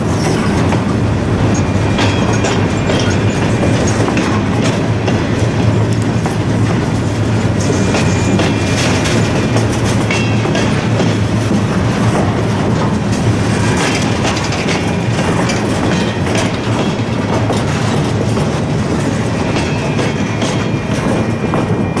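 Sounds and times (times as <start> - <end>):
steel wheels rumbling on rail: 0.0 - 22.0
wheels clacking over rail joints: 0.0 - 22.0.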